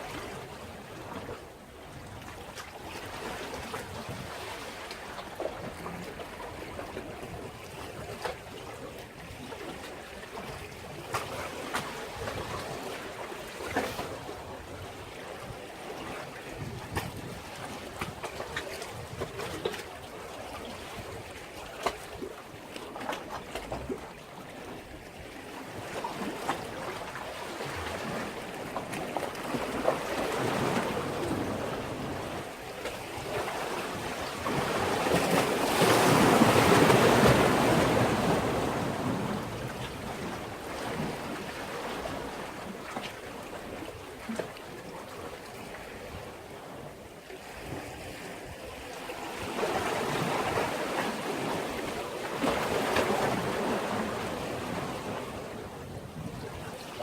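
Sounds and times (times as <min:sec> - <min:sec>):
waves washing against breakwater: 0:00.0 - 0:57.0.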